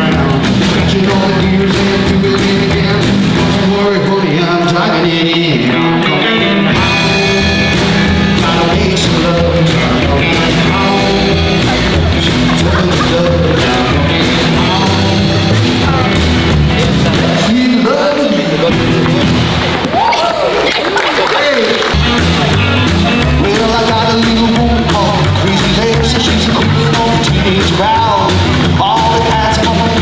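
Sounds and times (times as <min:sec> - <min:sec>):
person singing: 0:00.0 - 0:19.4, 0:21.1 - 0:30.0
upright double bass: 0:00.0 - 0:20.1, 0:21.1 - 0:30.0
drums: 0:00.0 - 0:30.0
electric guitar: 0:00.0 - 0:30.0.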